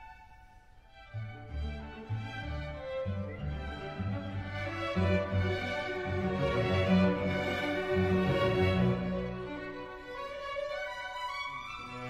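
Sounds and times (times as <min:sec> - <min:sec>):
slow classical string music: 0:00.0 - 0:12.0.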